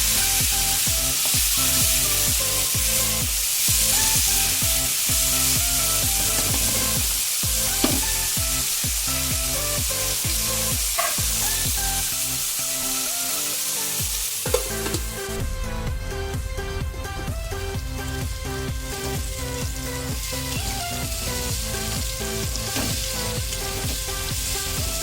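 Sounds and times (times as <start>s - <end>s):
food sizzling in hot oil: 0.0s - 15.5s, 17.1s - 25.0s.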